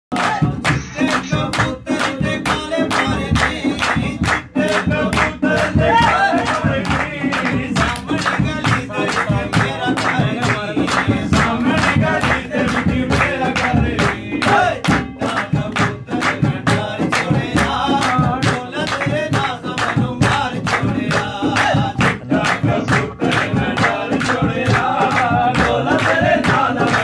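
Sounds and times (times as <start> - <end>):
hand drum: 0.1 - 27.0
men singing folk song: 0.1 - 27.0
rhythmic hand-clapping: 0.1 - 27.0.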